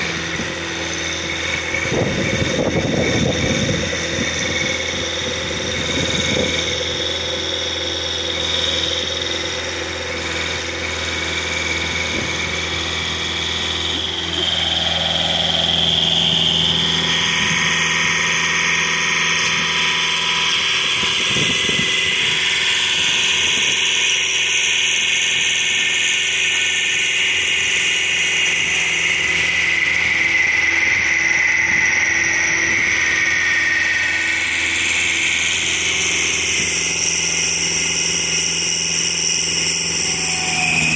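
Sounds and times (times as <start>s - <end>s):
diesel engine running: 0.0s - 40.9s
digging chain grinding soil: 0.0s - 40.9s.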